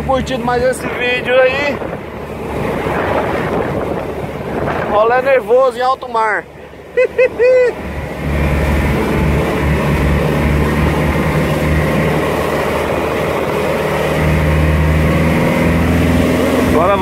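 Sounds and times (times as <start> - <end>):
motorboat engine humming: 0.0 - 17.0
wind and water rushing: 0.0 - 17.0.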